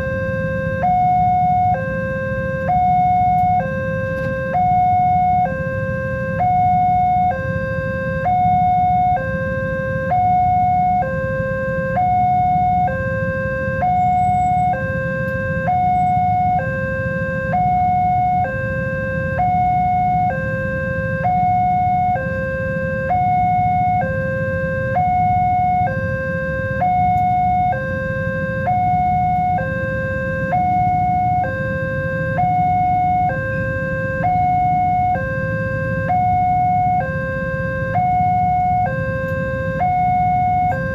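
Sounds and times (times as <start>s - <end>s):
level crossing two-tone alarm: 0.0s - 40.9s.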